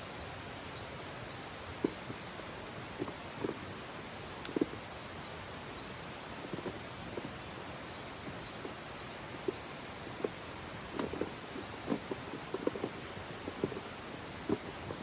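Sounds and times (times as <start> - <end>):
low steady fire hiss: 0.0 - 15.0
campfire crackling and popping: 0.1 - 15.0.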